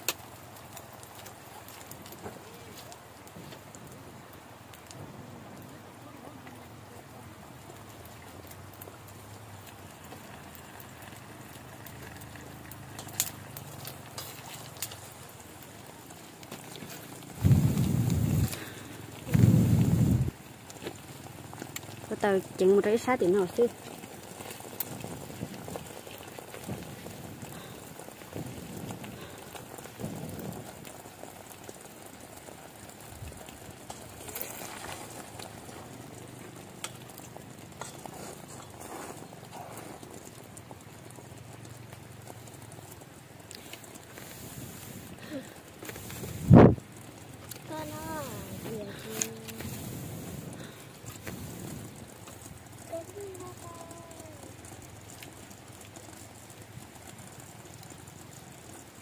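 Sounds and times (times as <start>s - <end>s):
fire popping: 0.0s - 59.0s
soup bubbling in a pot: 0.0s - 59.0s
wood fire crackling: 0.0s - 59.0s.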